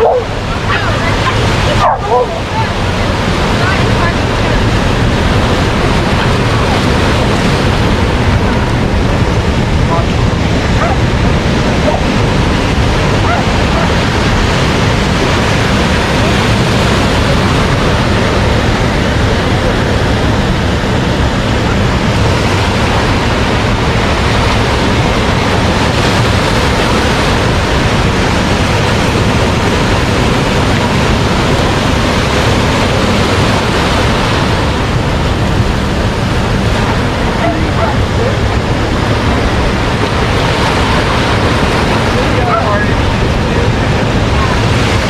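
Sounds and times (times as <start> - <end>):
ocean surf: 0.0 - 45.0
wind on microphone: 0.0 - 45.0.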